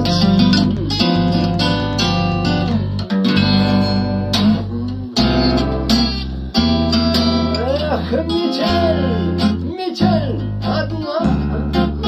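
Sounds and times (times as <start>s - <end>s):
acoustic guitar strumming: 0.0s - 12.0s
deep bass: 0.0s - 12.0s.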